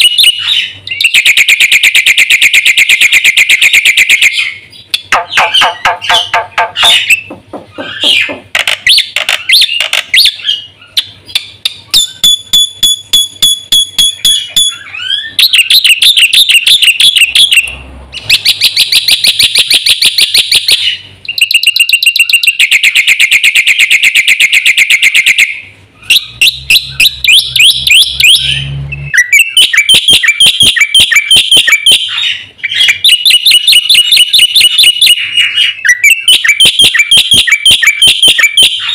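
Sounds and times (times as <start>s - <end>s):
bird singing trilled phrases: 0.0s - 38.9s.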